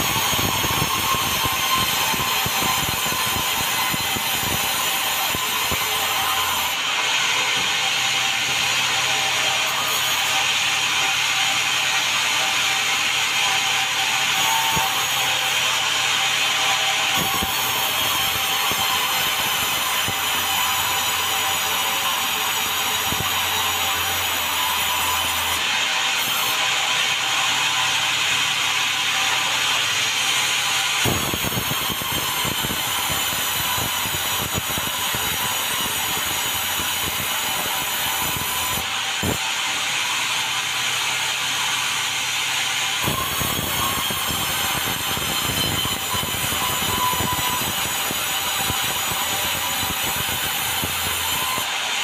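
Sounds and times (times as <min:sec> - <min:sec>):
sawmill whining and rasping: 0:00.0 - 0:52.0.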